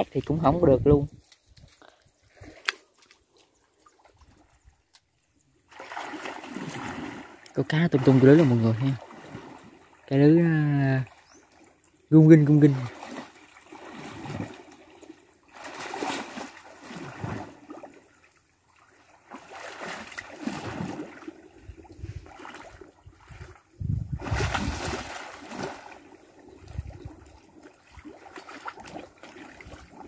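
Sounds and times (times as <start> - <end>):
splashing in shallow water: 0.0 - 30.0.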